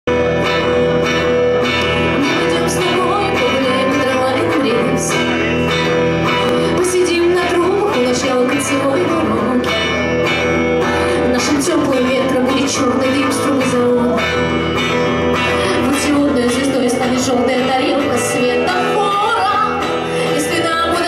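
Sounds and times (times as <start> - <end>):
electric guitar chords: 0.1 - 21.0
woman singing into microphone: 2.0 - 21.0.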